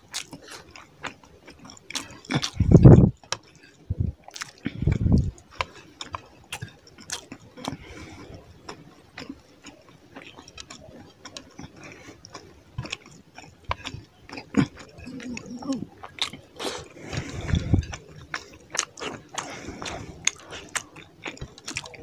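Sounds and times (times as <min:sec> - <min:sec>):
close chewing: 0:00.0 - 0:22.0.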